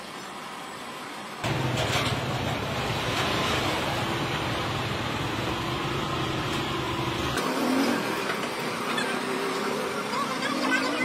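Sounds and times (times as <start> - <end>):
street noise: 0.0 - 11.0
vehicle engine: 1.4 - 11.0.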